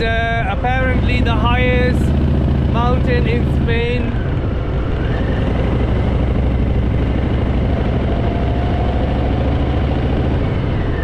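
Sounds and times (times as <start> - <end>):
motorcycle engine running: 0.0 - 11.0
road and wind rush: 0.0 - 11.0.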